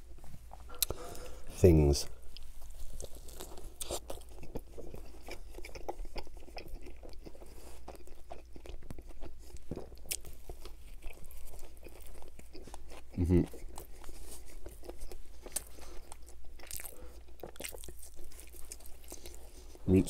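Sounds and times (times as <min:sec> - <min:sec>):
person chewing wetly: 0:02.3 - 0:19.8.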